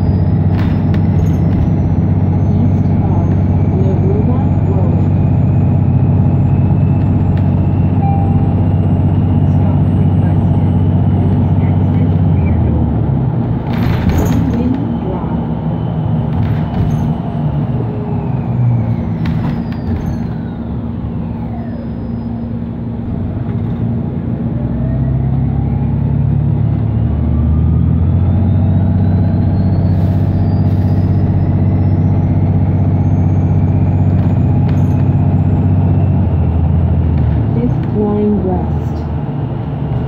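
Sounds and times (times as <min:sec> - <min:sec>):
bus electric drive whine: 0:00.0 - 0:40.0
bus engine drone: 0:00.0 - 0:40.0.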